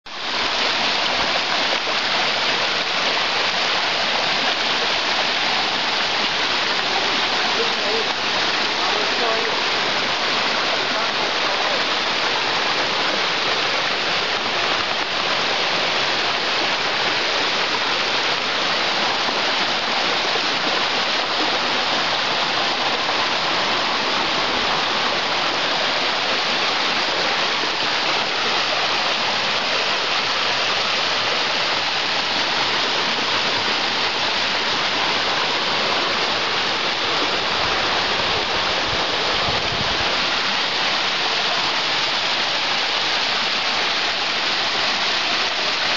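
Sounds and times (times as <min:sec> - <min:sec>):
stream rushing over rocks: 0:00.1 - 0:45.9.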